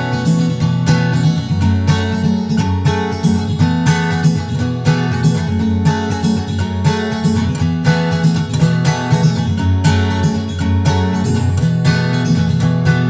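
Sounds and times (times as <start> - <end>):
strummed acoustic guitar music: 0.0 - 13.0.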